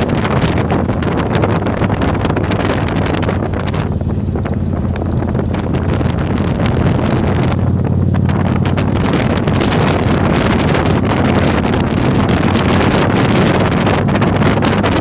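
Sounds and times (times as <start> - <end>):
motorcycle engine humming: 0.0 - 15.0
wind buffeting microphone: 0.0 - 15.0.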